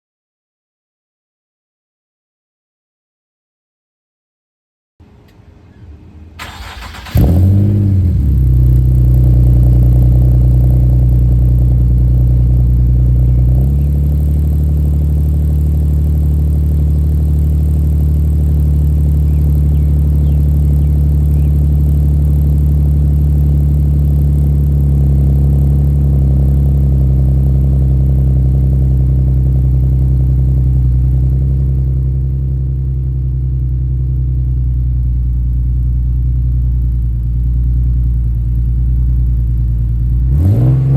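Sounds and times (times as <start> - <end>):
car engine revving and idling: 6.4 - 40.9.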